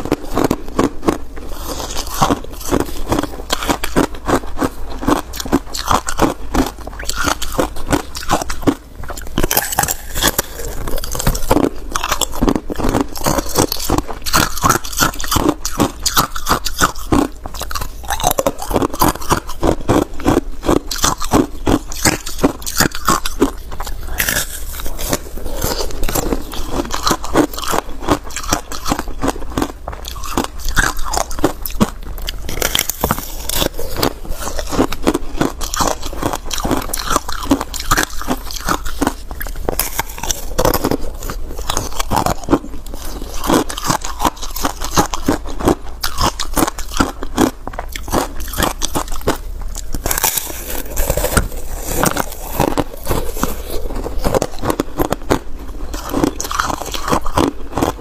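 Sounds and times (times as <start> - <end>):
crunching ice between teeth: 0.0 - 58.0.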